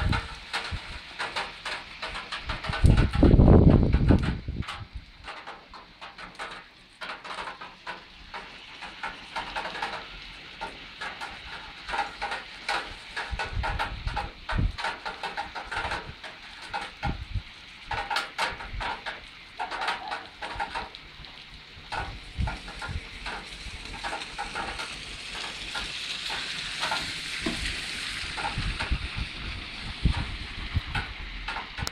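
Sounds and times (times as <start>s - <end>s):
raindrops pattering and splashing: 0.0s - 31.9s
steady hiss of rainfall: 0.0s - 31.9s.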